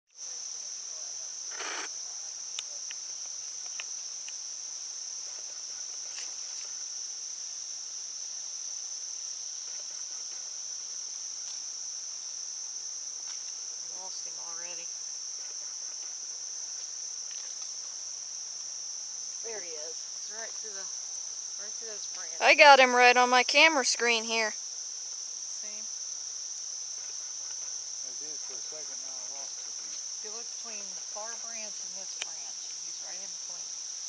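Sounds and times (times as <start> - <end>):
insects trilling: 0.1 - 34.0.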